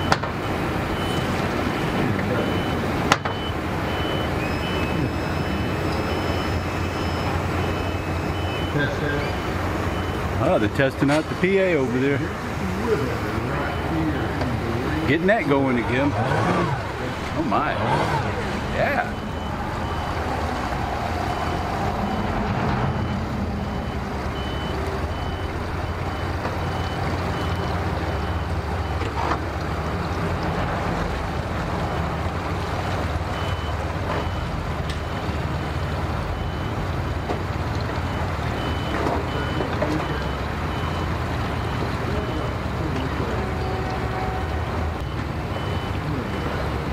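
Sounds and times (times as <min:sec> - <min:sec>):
reversing alarm beeping: 0:00.0 - 0:12.4, 0:13.1 - 0:29.0, 0:33.3 - 0:46.9.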